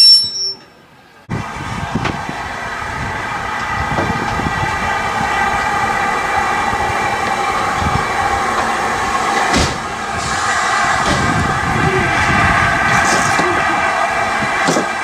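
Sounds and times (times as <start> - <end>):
train drone: 0.0 - 15.0
wind buffeting microphone: 1.3 - 15.0.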